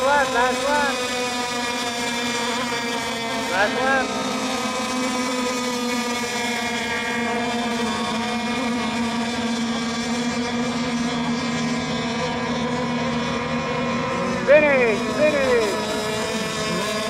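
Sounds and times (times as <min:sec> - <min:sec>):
small boat engines buzzing: 0:00.0 - 0:17.0.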